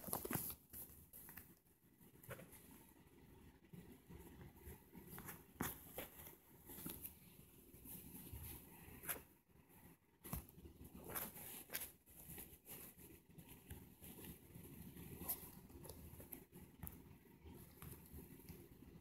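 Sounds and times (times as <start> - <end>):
low room noise: 0.0 - 19.0.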